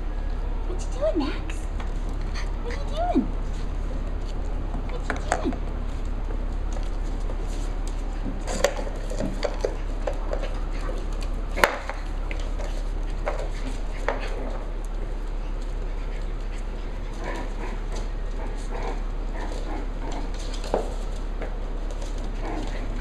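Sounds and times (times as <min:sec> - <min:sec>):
puppies playing on wooden floor: 0:00.0 - 0:23.0
steady low hum: 0:00.0 - 0:23.0.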